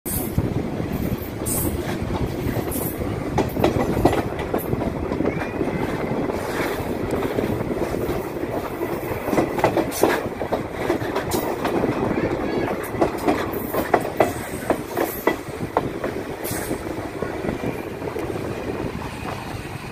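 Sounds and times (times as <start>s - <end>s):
train rattling: 0.0s - 19.9s
wheels clacking over rails: 0.1s - 19.9s.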